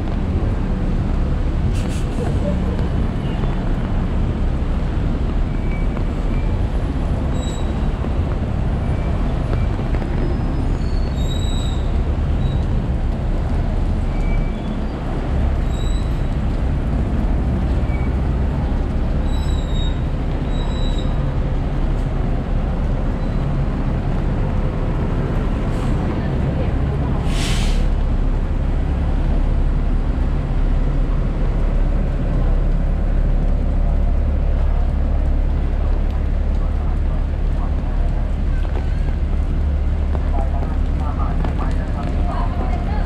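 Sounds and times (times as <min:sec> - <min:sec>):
hiss of rain and tyres: 0:00.0 - 0:43.0
traffic rumble: 0:00.0 - 0:43.0.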